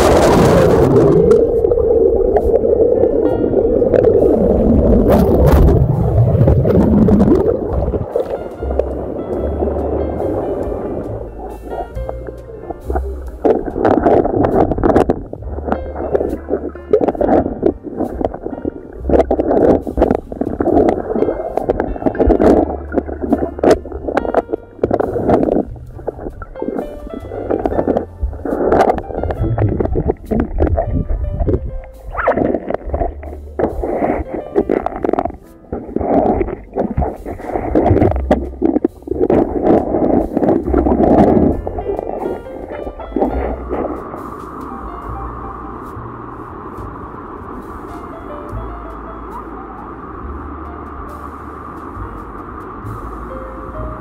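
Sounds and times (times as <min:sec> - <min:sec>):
background music with low bass: 0:00.0 - 0:54.0
underwater rush of flowing water: 0:00.0 - 0:54.0.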